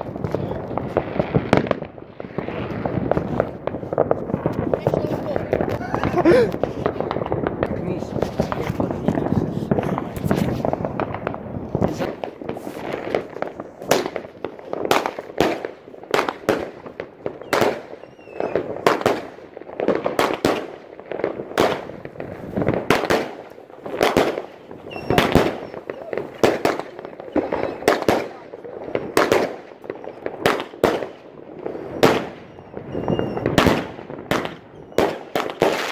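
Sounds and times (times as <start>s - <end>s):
fireworks bangs echoing: 0.0s - 35.9s
fireworks crackling: 0.0s - 35.9s.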